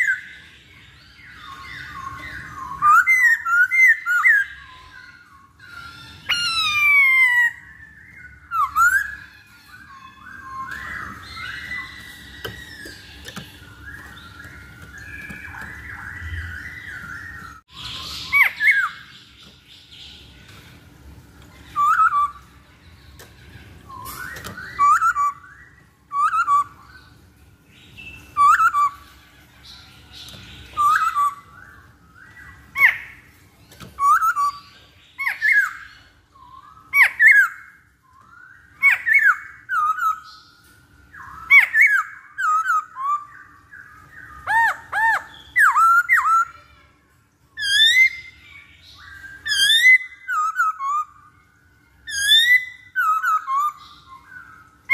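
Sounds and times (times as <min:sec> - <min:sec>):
bird warbling: 0:00.0 - 0:27.3, 0:28.0 - 0:46.8.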